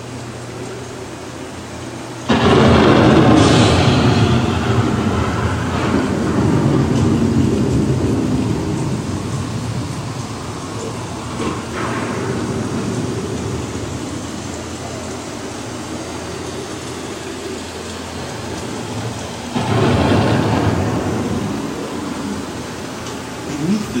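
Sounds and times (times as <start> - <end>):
rumbling thunder: 0.0 - 24.0
steady rain: 0.0 - 24.0
loud thunderclap: 2.2 - 24.0.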